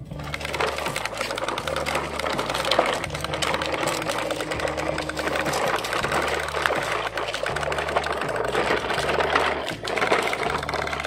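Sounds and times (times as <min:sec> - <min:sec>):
plastic toy truck rattling on gravel: 0:00.0 - 0:11.0.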